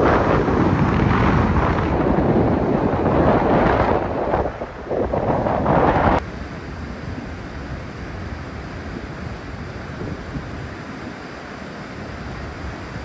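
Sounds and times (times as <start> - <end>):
wind buffeting microphone: 0.0 - 11.3
light wind: 0.0 - 13.0
ocean surf: 0.0 - 13.0.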